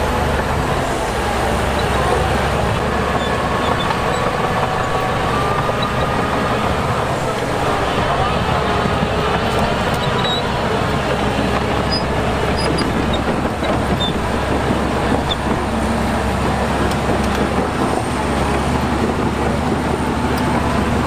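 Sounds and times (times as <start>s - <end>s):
diesel machinery engine rumble: 0.0s - 21.0s.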